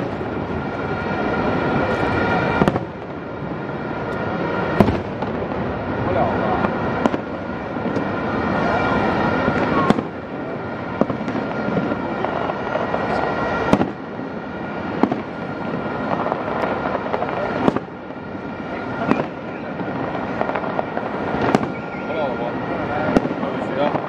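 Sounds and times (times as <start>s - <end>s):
crackle of bursting fireworks: 0.0s - 24.0s
sharp firework bangs: 0.0s - 24.0s.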